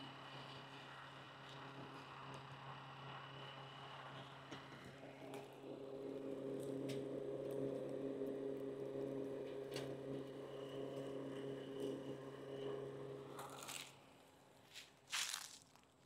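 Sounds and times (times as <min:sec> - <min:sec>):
small motor humming: 0:00.0 - 0:15.6.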